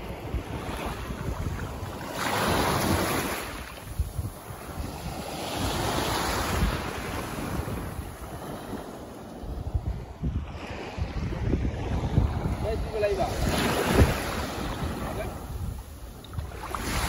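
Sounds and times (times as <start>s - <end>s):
small waves washing on shore: 0.0s - 17.0s
wind rumble on microphone: 0.0s - 17.0s.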